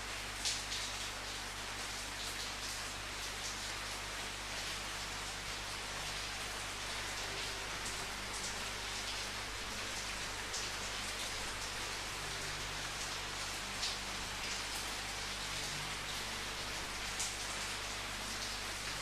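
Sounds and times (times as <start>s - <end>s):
steady rain hissing: 0.0s - 19.0s.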